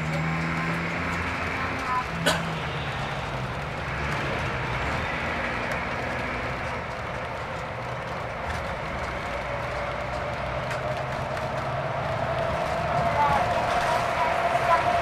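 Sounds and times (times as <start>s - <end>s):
coach engine hum: 0.0s - 15.0s
road and tyre noise: 0.0s - 15.0s.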